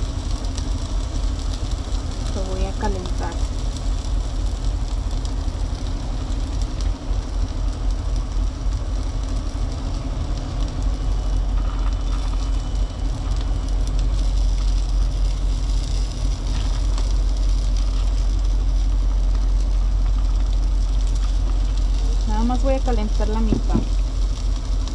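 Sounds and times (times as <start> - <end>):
truck engine idling: 3.9 - 24.9.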